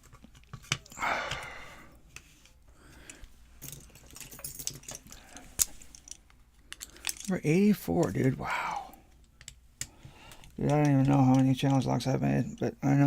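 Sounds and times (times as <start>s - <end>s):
lock and picks clicking: 0.0s - 1.5s, 2.1s - 8.3s, 9.0s - 12.0s.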